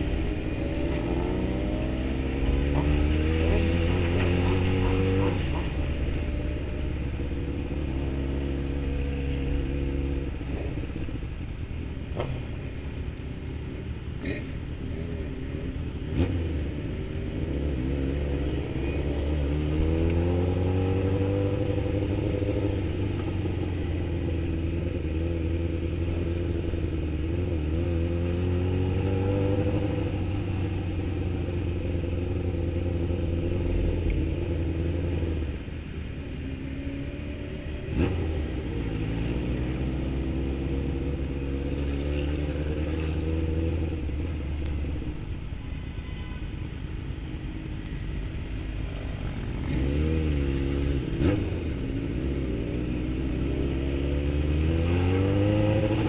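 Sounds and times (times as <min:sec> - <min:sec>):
motorcycle engine revving through gears: 0:00.0 - 0:46.2, 0:47.8 - 0:56.0.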